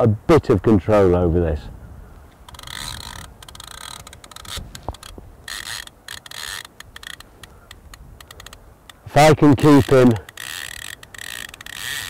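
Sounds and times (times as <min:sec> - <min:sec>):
fishing reel clicking: 0:02.3 - 0:12.0.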